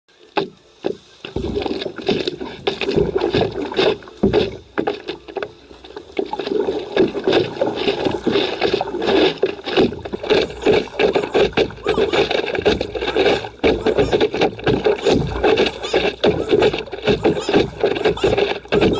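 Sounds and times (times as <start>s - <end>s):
water splashing around paddleboard: 0.1s - 18.9s.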